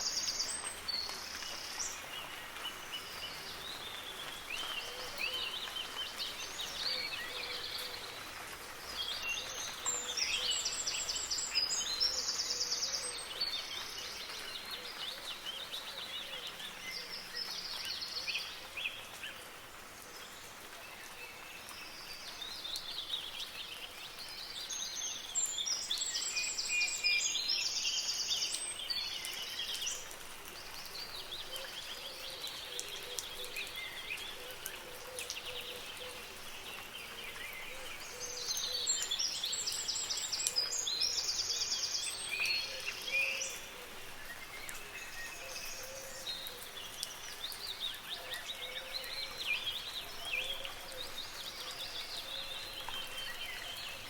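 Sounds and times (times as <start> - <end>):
soft rain hiss: 0.0 - 54.0.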